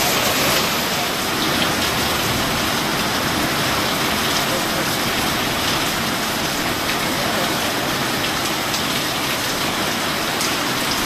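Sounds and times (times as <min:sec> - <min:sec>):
heavy rain on a sheet roof: 0:00.0 - 0:11.0
loud water drips: 0:00.0 - 0:11.0.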